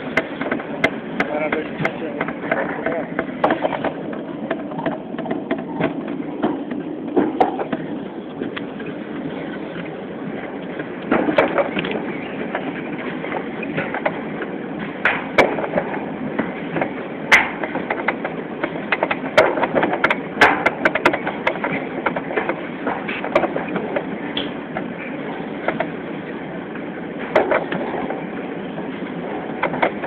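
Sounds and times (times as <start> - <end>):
sharp knocks and clacks: 0.0 - 8.6, 11.0 - 25.0, 27.2 - 28.2, 29.0 - 30.0
toboggan rolling on steel track: 0.0 - 30.0.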